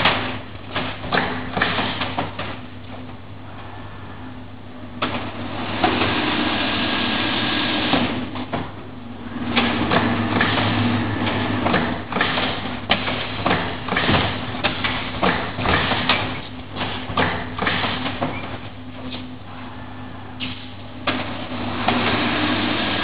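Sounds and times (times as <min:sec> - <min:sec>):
dense mechanical noise: 0:00.0 - 0:23.0
machine running with low hum: 0:00.0 - 0:23.0.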